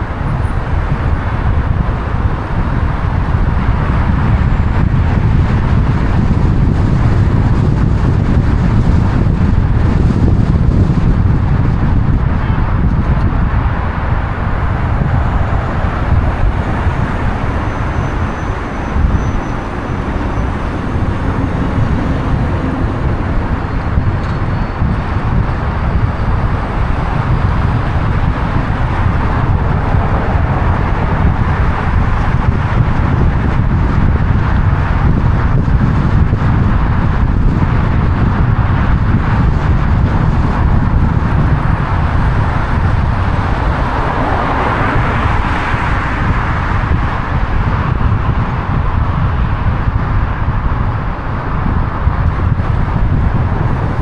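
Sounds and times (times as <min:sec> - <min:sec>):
car engine rumble: 0:00.0 - 0:54.0
wind noise: 0:00.0 - 0:54.0.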